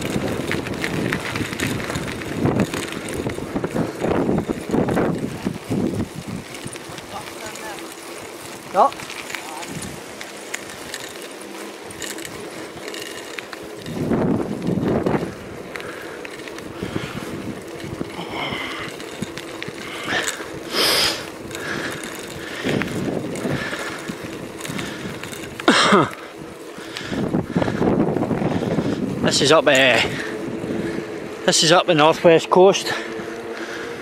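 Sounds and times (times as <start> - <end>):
bicycle tyres rolling on tarmac: 0.0 - 34.0.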